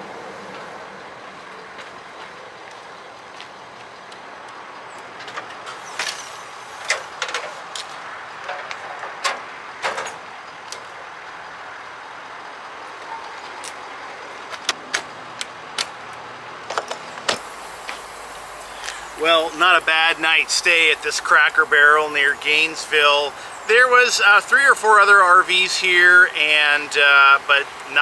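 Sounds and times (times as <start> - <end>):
traffic hum: 0.0 - 28.0.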